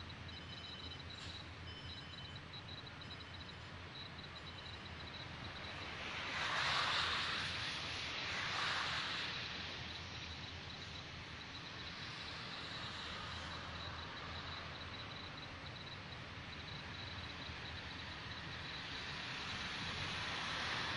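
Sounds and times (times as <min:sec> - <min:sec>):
distant road traffic: 0:00.0 - 0:20.9.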